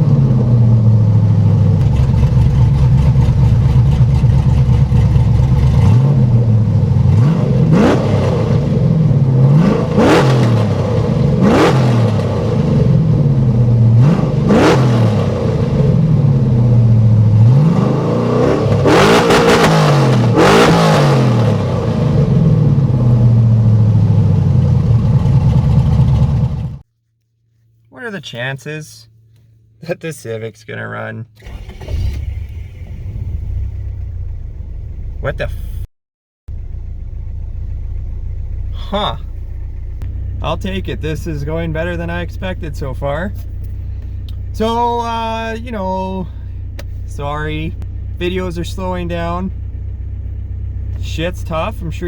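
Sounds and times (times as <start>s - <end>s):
truck engine revving: 0.0s - 26.8s, 36.5s - 52.0s.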